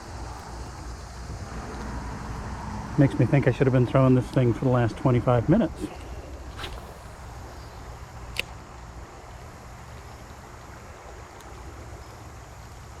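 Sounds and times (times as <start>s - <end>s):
light hiss: 0.0s - 13.0s.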